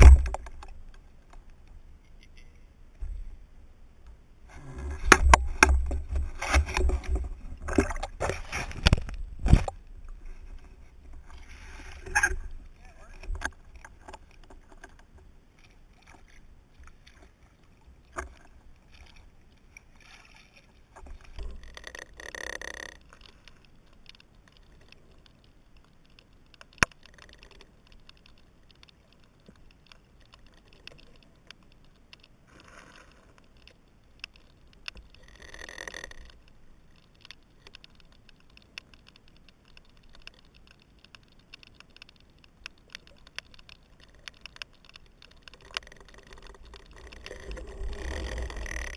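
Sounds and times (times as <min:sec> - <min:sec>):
underwater crackle of clicks: 0:00.0 - 0:03.4, 0:04.0 - 0:48.9.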